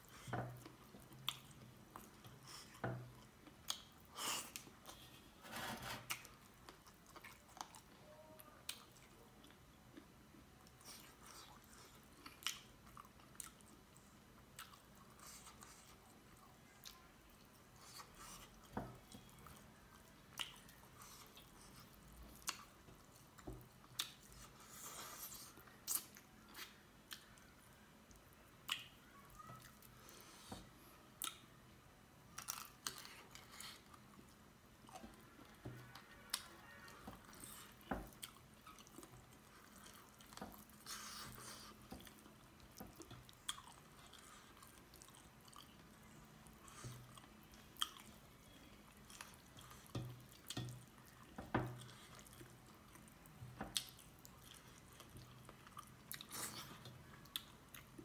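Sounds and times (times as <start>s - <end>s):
person chewing: 0.0s - 8.0s, 8.7s - 16.2s, 16.8s - 27.5s, 32.3s - 58.0s.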